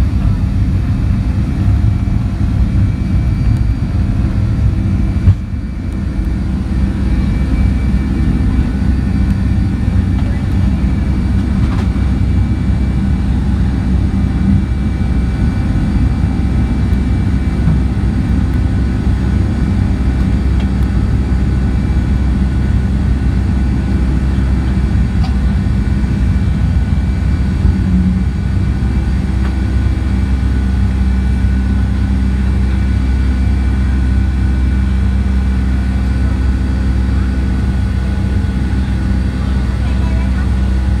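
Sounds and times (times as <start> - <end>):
jet engines heard inside cabin: 0.0 - 41.0.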